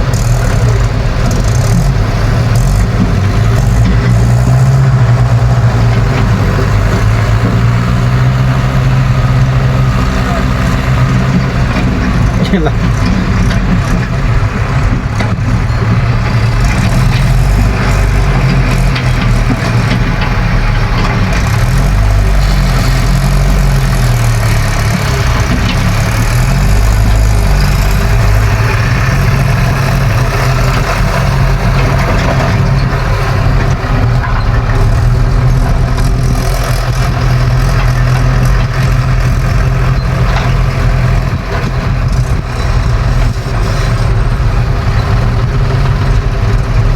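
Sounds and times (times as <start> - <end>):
diesel engines running: 0.0 - 46.9.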